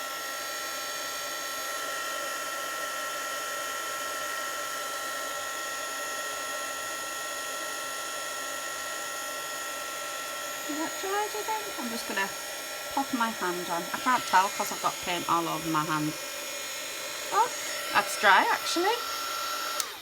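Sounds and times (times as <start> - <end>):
hot-air dryer running: 0.0 - 20.0.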